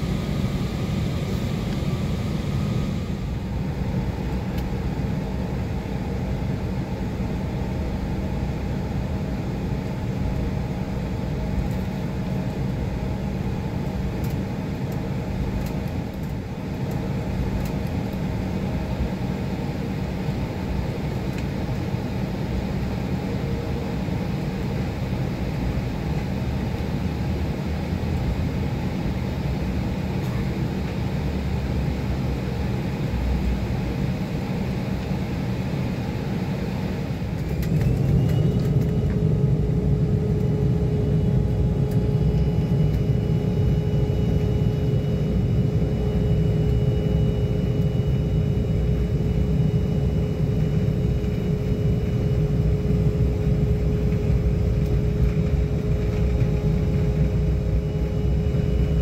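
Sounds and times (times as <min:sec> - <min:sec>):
jet engine whine: 0:00.0 - 0:59.0
jet engines rumbling: 0:00.0 - 0:59.0.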